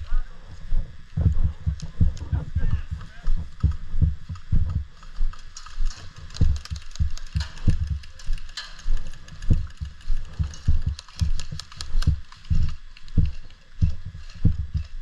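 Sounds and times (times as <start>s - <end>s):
footsteps dull thumps: 0.1s - 15.0s.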